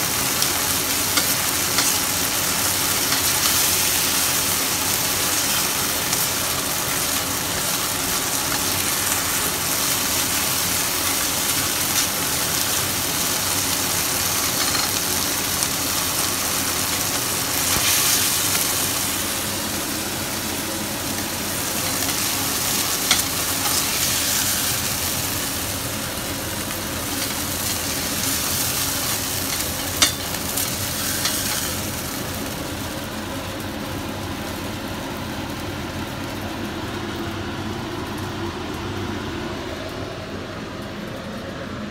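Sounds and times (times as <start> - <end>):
oysters sizzling in hot oil: 0.0 - 36.8.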